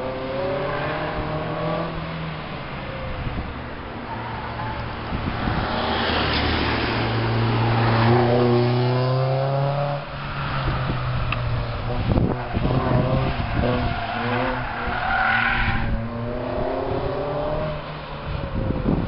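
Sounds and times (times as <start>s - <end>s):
car engine accelerating: 0.0s - 3.5s, 5.2s - 18.1s.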